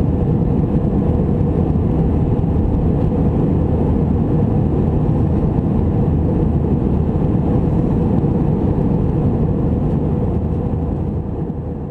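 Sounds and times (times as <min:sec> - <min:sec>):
airliner cabin engine noise: 0:00.0 - 0:11.9.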